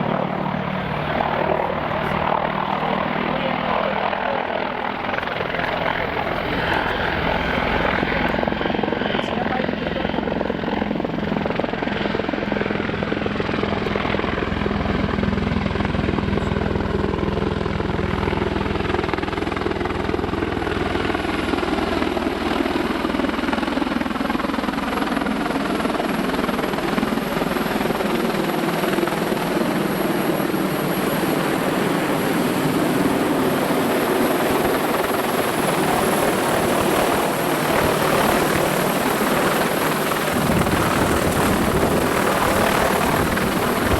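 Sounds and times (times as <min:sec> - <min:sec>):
helicopter rotor beat: 0:00.0 - 0:43.9
helicopter turbine whine: 0:00.0 - 0:43.9.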